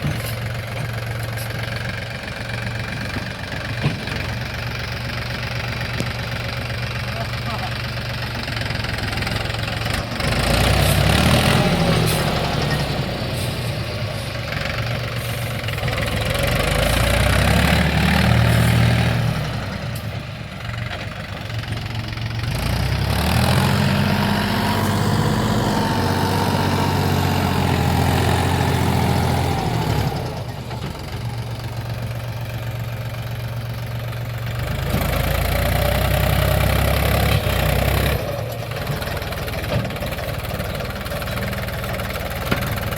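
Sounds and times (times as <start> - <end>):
tractor diesel engine revving: 0.0 - 42.9.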